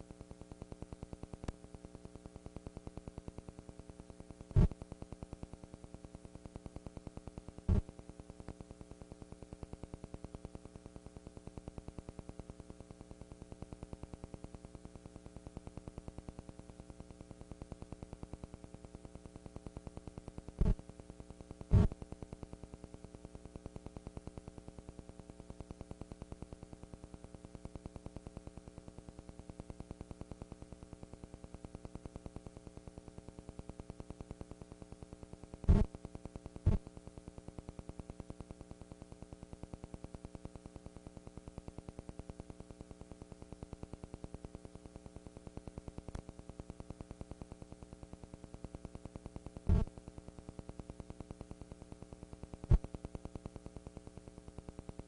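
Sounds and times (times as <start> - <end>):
electrical hum and buzz: 0.0 - 55.0.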